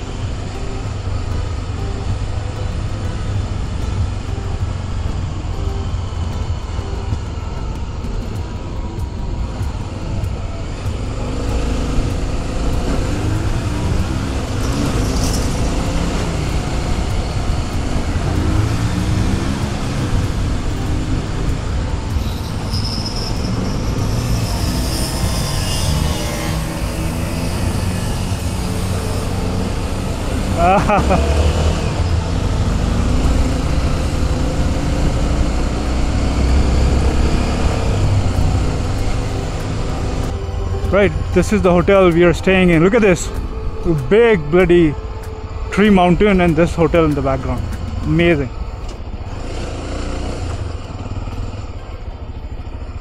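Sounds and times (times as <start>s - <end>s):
high steady tone: 0.0s - 53.0s
motorcycle engine running: 0.0s - 53.0s.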